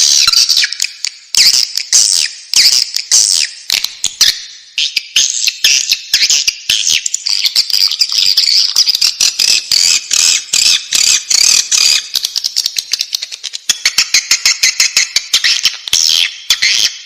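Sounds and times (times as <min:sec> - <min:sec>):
bird chicks chirping: 0:00.0 - 0:17.0.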